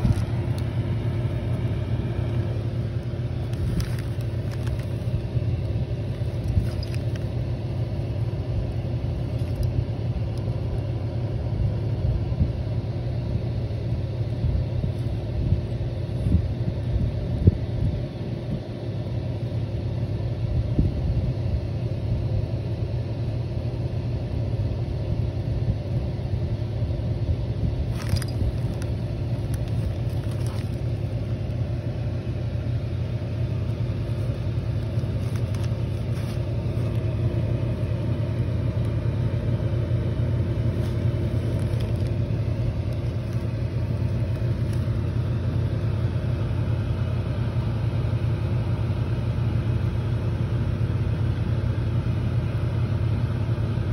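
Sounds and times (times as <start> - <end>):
fan humming: 0.0 - 53.9.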